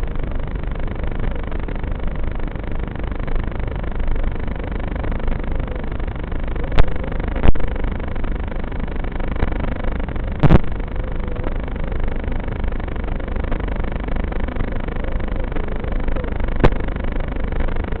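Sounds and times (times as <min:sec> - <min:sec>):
drone motor whine: 0:00.0 - 0:18.0.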